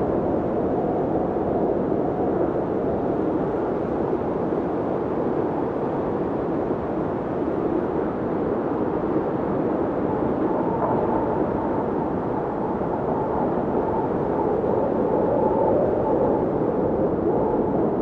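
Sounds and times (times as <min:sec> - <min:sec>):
snowstorm wind blowing: 0:00.0 - 0:18.0.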